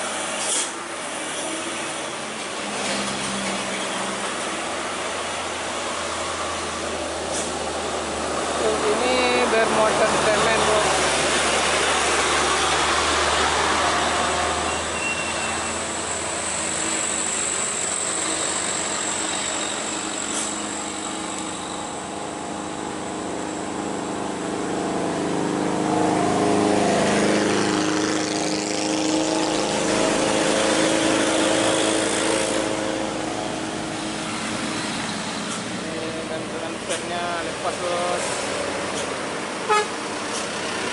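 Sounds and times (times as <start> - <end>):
motor vehicle engines running: 0.0 - 40.9.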